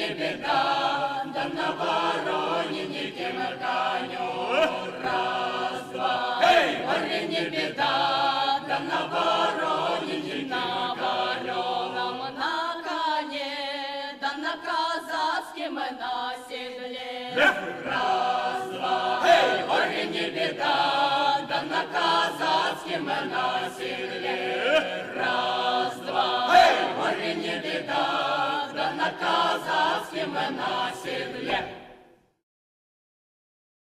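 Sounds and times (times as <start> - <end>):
choir singing: 0.0 - 32.2.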